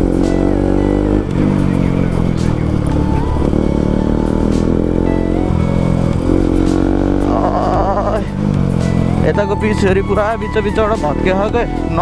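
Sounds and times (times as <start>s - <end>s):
background music: 0.0s - 12.0s
motorcycle engine running: 0.0s - 12.0s.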